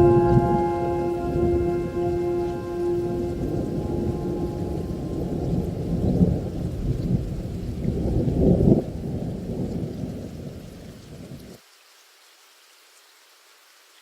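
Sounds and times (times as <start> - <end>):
rolling thunder: 0.0 - 11.4
rain: 0.0 - 14.0.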